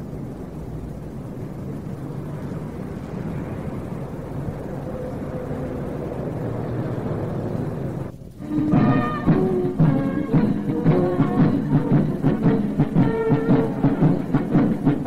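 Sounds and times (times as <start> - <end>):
faint hum: 0.0 - 15.0
low engine rumble: 0.0 - 15.0.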